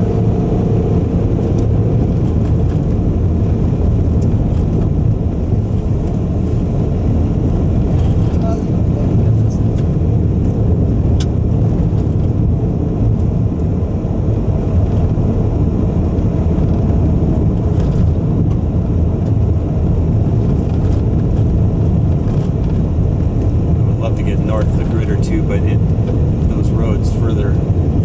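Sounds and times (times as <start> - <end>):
road and engine rumble in car: 0.0 - 28.0.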